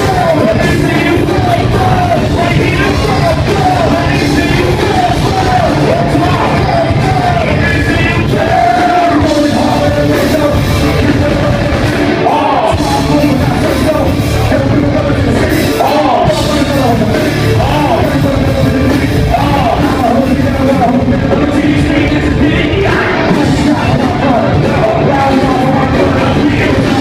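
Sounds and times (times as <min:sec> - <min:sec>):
heavy bass: 0:00.0 - 0:27.0
person singing: 0:00.0 - 0:27.0.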